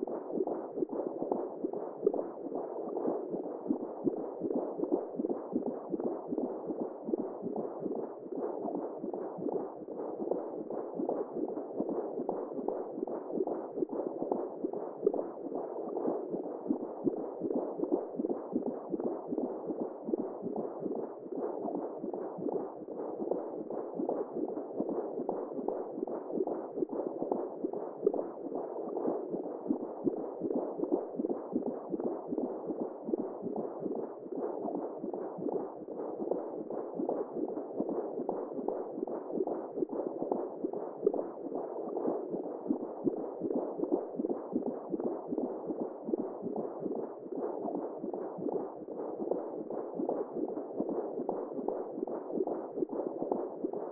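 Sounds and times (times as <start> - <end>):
muffled whooshing womb sound: 0.0 - 53.9.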